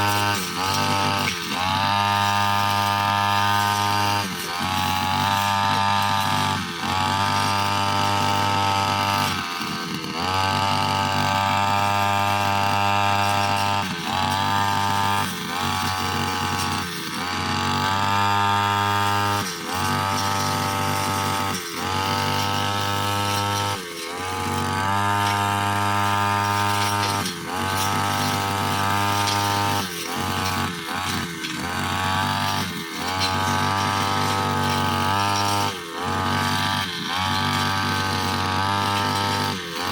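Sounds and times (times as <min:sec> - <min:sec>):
brushcutter engine at high revs: 0:00.0 - 0:39.9.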